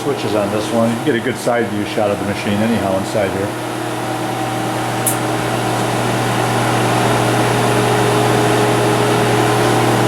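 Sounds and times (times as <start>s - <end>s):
machine hum with fans: 0.0s - 10.0s.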